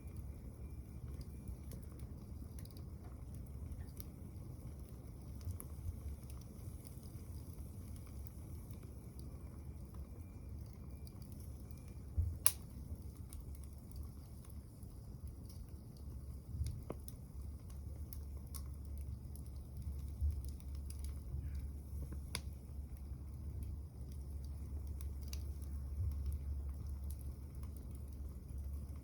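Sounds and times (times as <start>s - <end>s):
stove low rumble: 0.0s - 29.0s
wood fire crackling and popping: 0.0s - 29.0s.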